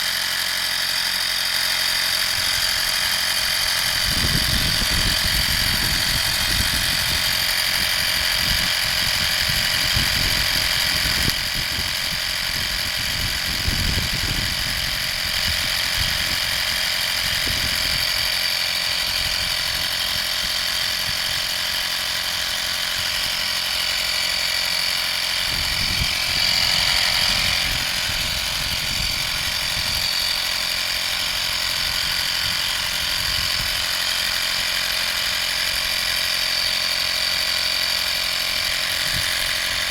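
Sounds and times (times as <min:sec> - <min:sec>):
air compressor whining: 0:00.0 - 0:39.9.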